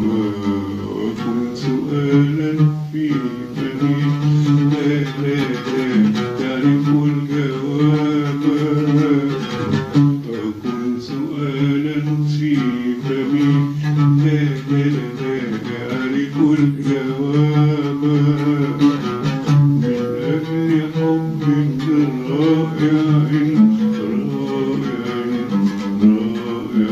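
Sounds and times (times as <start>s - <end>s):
man singing slow melody: 0.0s - 26.9s
plucked oud: 0.0s - 26.9s.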